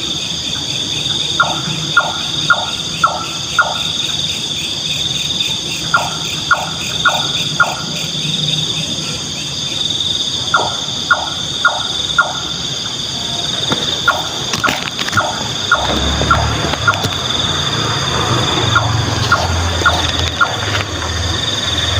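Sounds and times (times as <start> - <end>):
nightjar calling: 0.0 - 12.7, 13.4 - 21.9
high insect chorus: 0.0 - 21.9.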